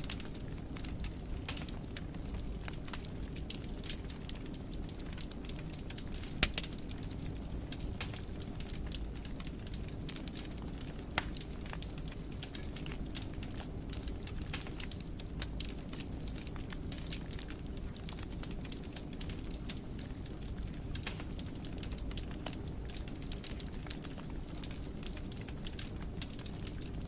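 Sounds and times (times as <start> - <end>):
fire pops and snaps: 0.0 - 27.0
wood fire crackling: 0.0 - 27.0.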